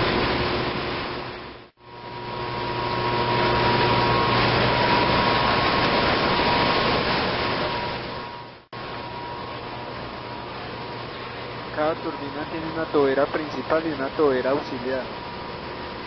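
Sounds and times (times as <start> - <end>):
low hum: 0.0 - 16.0
turbines running: 0.0 - 16.0.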